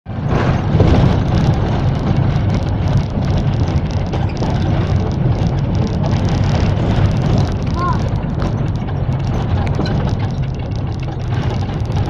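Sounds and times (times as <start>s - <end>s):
minibus engine and road noise: 0.1s - 12.0s.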